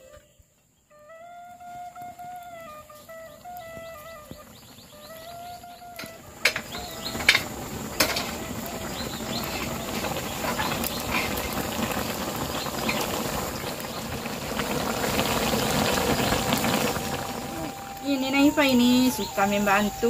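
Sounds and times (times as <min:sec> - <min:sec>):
curry boiling and bubbling: 0:01.2 - 0:20.0.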